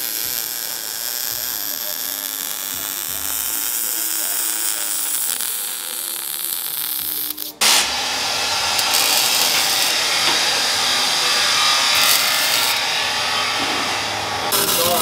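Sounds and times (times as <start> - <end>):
welding hiss and crackle: 0.0 - 10.6, 11.6 - 12.9, 14.0 - 15.0.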